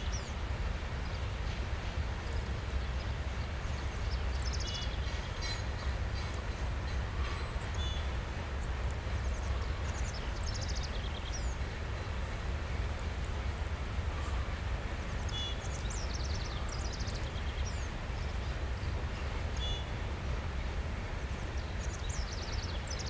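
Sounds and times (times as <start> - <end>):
freight train rumbling past: 0.0 - 23.0
songbirds singing: 0.0 - 23.0.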